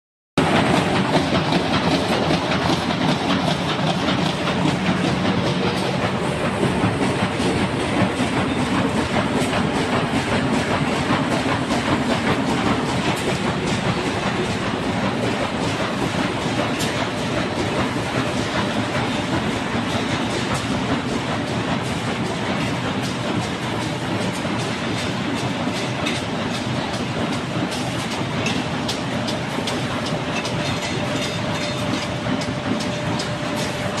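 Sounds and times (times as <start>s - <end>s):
machinery clatter and rumble: 0.4s - 34.0s.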